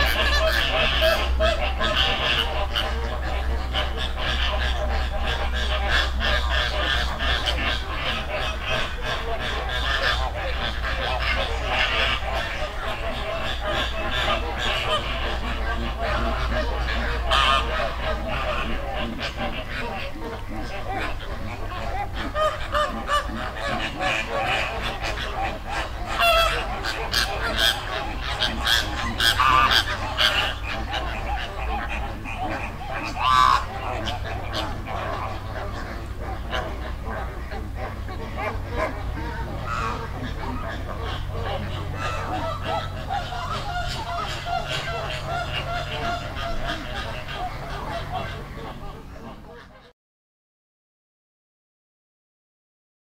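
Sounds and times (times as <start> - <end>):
steady low hum: 0.0 - 49.8
flamingos honking: 0.0 - 49.9.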